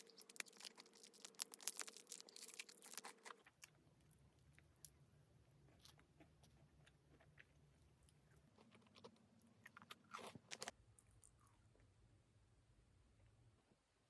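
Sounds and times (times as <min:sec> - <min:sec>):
person chewing and crunching food: 0:00.0 - 0:11.9.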